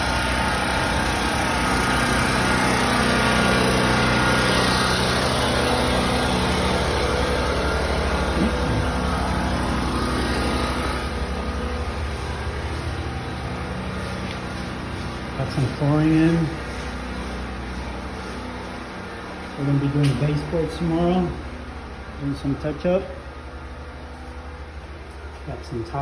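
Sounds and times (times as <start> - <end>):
motor droning: 0.0 - 26.0.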